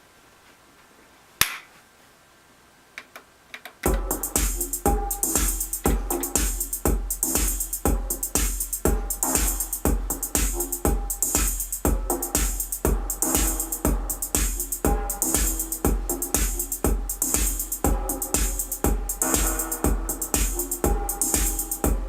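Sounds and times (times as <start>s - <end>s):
hi-hat hiss: 3.8s - 22.0s
deep kick drum thumps: 3.9s - 22.0s
synthesizer playing looping notes: 3.9s - 22.0s.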